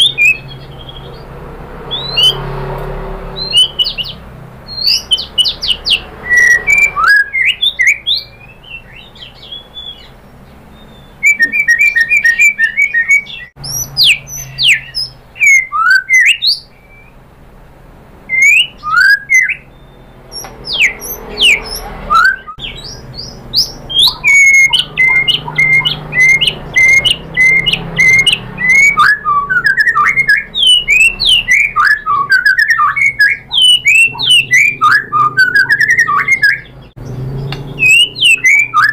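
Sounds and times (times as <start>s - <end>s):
bird singing whistled song: 0.0s - 1.3s, 1.9s - 2.5s, 3.4s - 17.2s, 18.3s - 38.9s.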